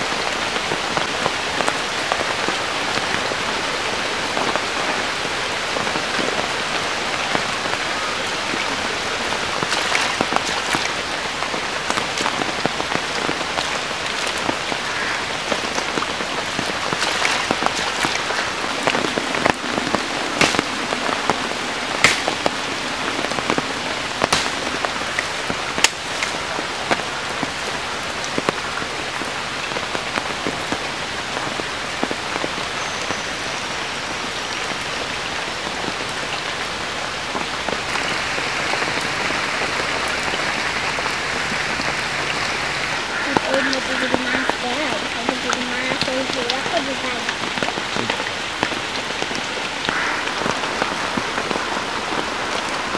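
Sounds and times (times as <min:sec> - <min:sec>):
rain on puddles and mud: 0:00.0 - 0:52.9.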